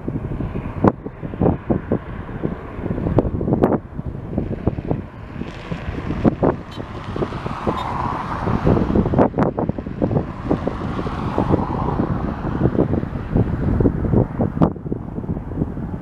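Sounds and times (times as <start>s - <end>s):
jet engine noise: 0.0s - 16.0s
wind buffeting microphone: 0.0s - 16.0s.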